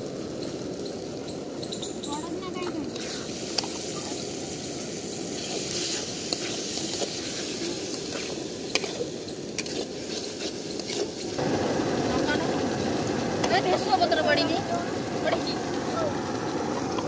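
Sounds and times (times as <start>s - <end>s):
food sizzling and bubbling: 0.0s - 17.0s.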